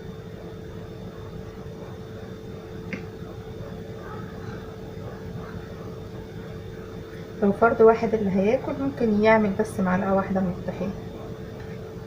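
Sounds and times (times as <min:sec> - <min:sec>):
steady hum and room rumble: 0:00.0 - 0:12.0.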